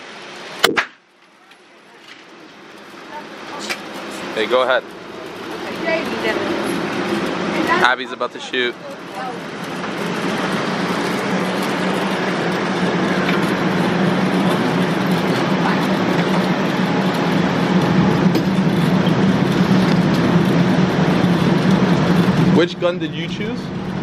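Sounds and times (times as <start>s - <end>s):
low hum: 2.7s - 24.0s
mechanical rushing noise: 2.9s - 24.0s.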